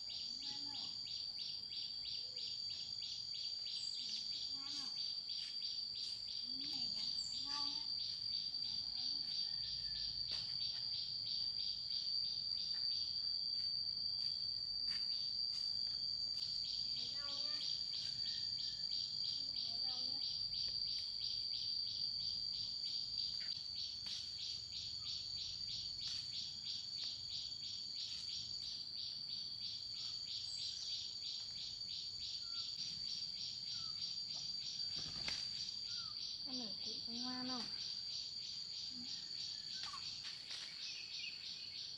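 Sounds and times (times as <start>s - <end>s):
faint bird chirps: 0.0s - 13.2s, 16.5s - 41.9s
insects trilling in chorus: 0.0s - 41.9s.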